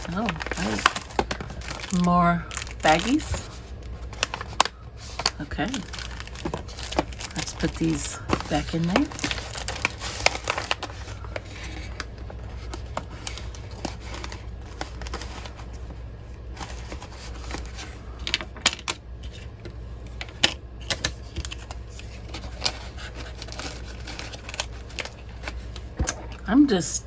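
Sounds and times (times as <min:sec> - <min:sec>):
plastic baggies rustling: 0:00.0 - 0:26.8.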